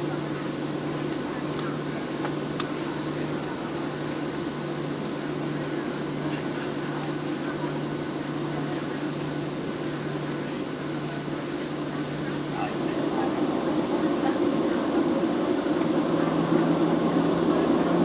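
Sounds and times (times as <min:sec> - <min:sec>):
airplane cabin drone: 0:00.0 - 0:18.0.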